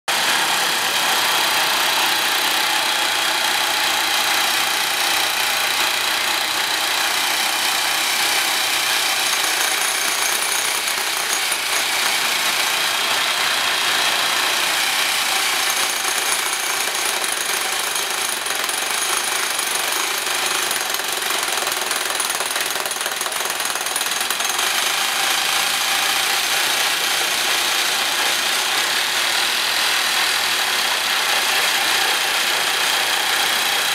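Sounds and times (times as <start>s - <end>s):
rock drill hammering: 0.1s - 33.9s.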